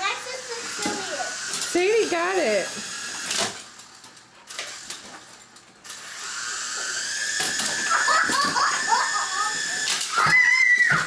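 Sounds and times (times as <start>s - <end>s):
toy helicopter motor whining: 0.0s - 3.8s, 4.5s - 5.1s, 5.8s - 11.0s.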